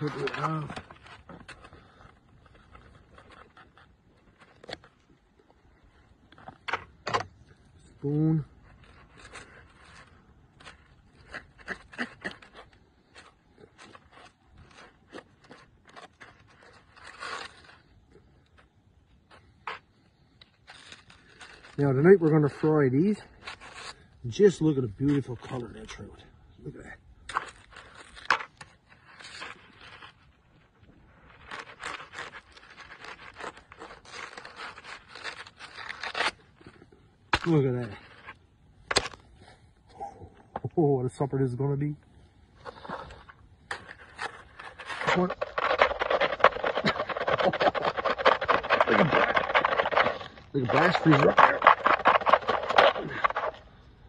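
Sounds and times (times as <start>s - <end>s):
gloved hands scraping fish on snow: 0.0s - 5.0s, 8.5s - 26.1s, 27.3s - 38.6s, 42.6s - 54.0s.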